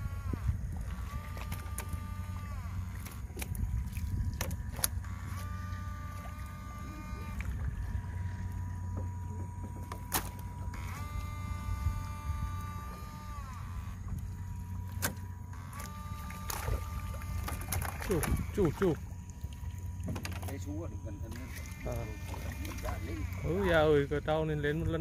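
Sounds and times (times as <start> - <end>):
inverter whining: 0.0 - 25.0
steady low hum: 0.0 - 25.0.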